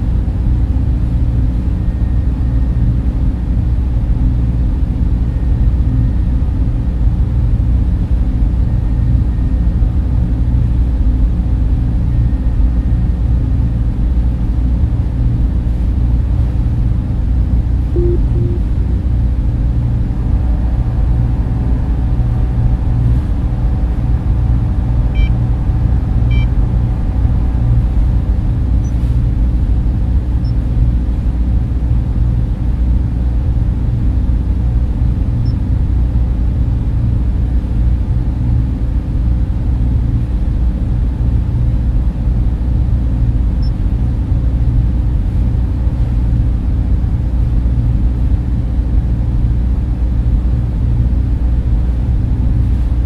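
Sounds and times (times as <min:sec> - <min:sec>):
server and cooling fans whirring: 0:00.0 - 0:53.0.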